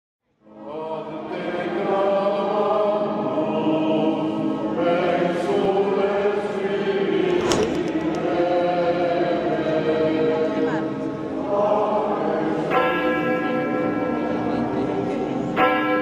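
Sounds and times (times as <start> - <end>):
choir singing sustained chords: 0.4 - 13.7.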